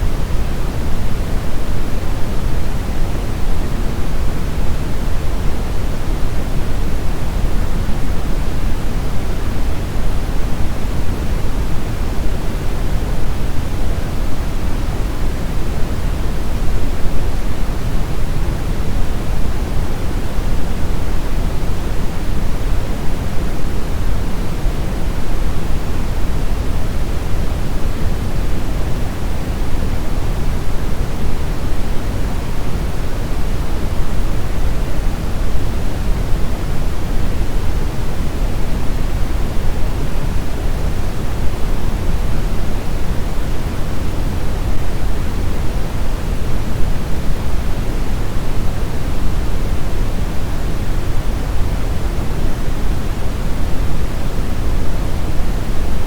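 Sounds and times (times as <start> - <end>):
brown noise hiss: 0.0 - 56.0.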